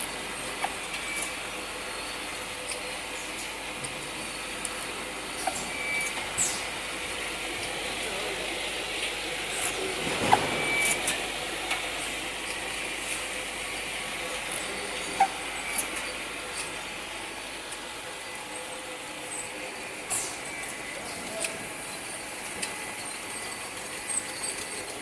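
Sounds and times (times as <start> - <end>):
filling line machine noise: 0.0 - 25.0.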